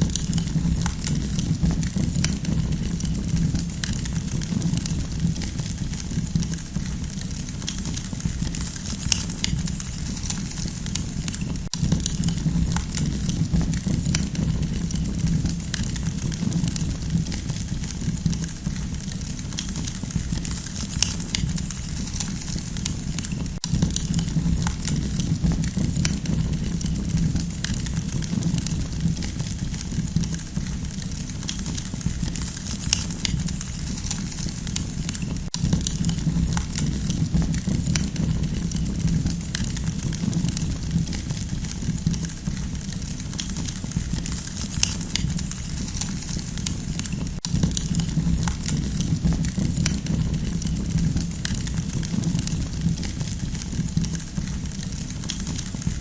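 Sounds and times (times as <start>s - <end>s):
burning wood crackling and popping: 0.0s - 56.0s
campfire low rumble: 0.0s - 56.0s.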